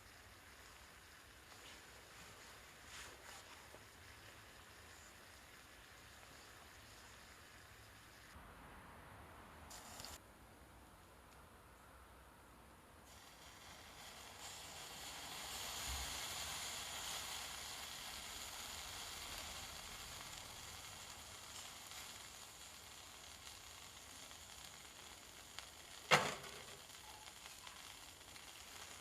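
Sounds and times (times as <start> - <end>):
grill fire sizzling hiss: 0.0 - 8.4, 9.7 - 10.2, 13.0 - 29.0.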